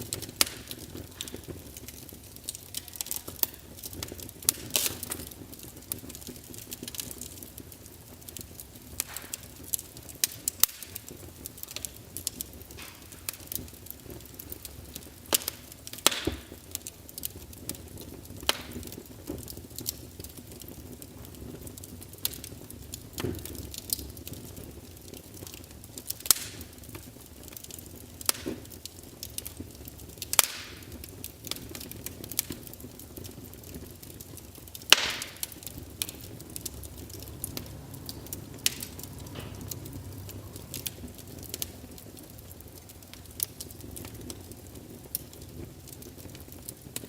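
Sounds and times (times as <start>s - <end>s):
logs crackling in a fireplace: 0.0s - 47.0s
low steady fire hiss: 0.0s - 47.0s.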